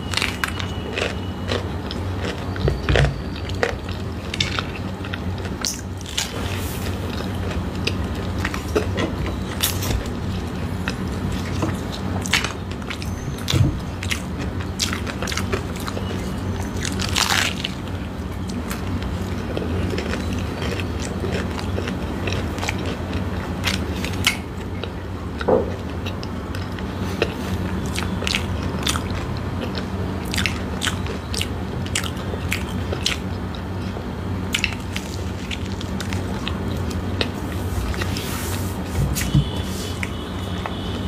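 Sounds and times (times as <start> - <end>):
crunchy pastry chewing: 0.0 - 13.2, 13.9 - 41.0
steady low hum: 0.0 - 41.0.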